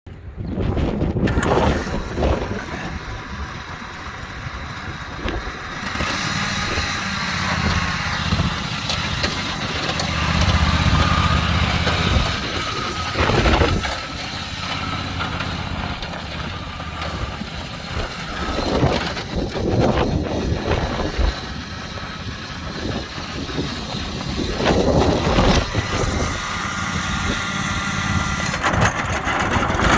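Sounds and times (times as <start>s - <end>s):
riding mower engine running: 0.1s - 29.9s
wind noise on microphone: 0.1s - 29.9s.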